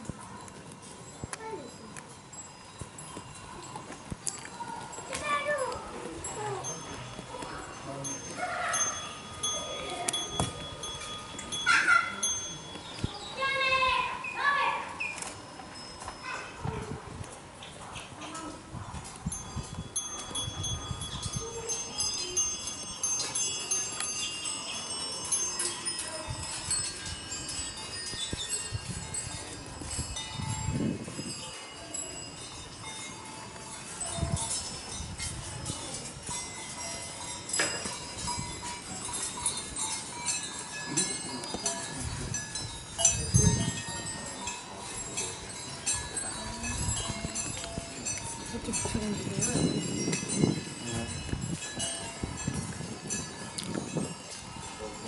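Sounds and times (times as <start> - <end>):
small metal bells tinkling: 0.0 - 55.0.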